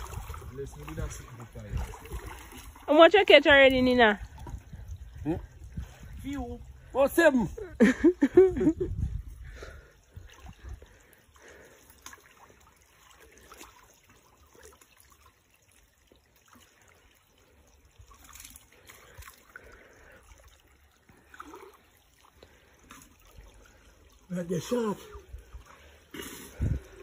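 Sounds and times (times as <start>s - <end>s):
faint trickling stream water: 0.0s - 27.0s.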